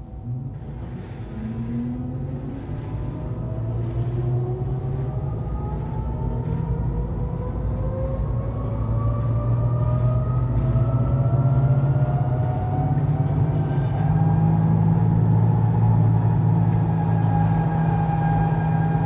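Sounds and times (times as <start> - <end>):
low running hum and rumble: 0.0 - 19.0.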